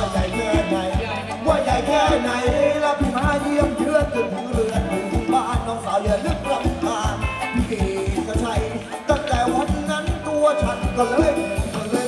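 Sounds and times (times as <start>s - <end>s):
live band dance music: 0.0s - 12.0s
person singing melody: 0.0s - 12.0s.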